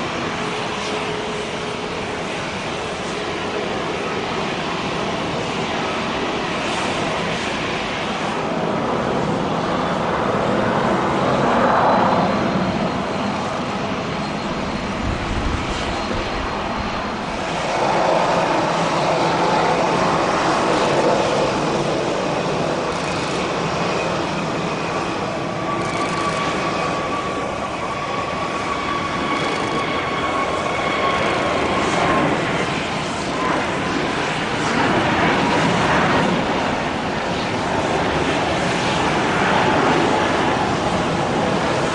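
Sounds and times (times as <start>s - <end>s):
high engine whine: 0.0s - 41.9s
jet engines roaring: 0.0s - 41.9s.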